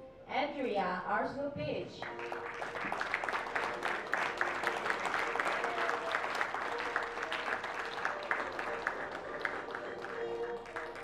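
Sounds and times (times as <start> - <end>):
faint music: 0.0 - 11.0
audience applauding: 2.0 - 11.0.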